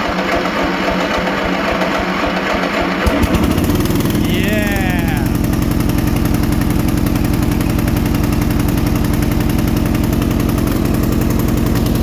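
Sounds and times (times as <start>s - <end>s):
petrol lawn mower engine running: 0.0s - 12.0s.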